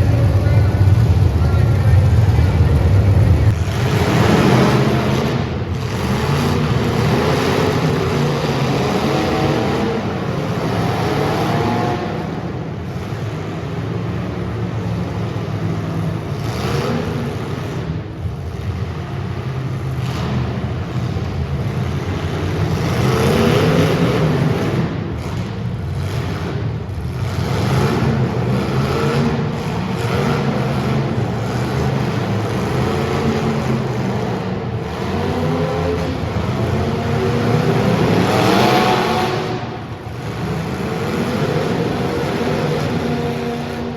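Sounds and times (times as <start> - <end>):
race car engines accelerating: 0.0 - 43.9.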